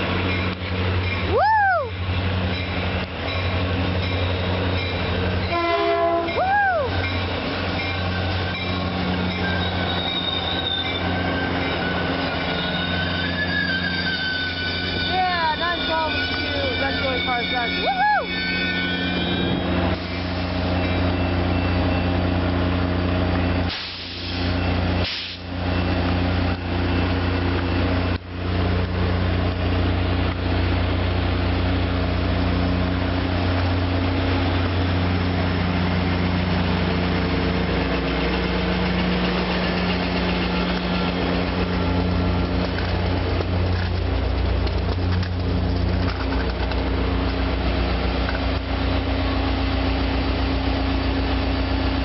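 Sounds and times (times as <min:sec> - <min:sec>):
diesel locomotive engine drone: 0:00.0 - 0:52.0.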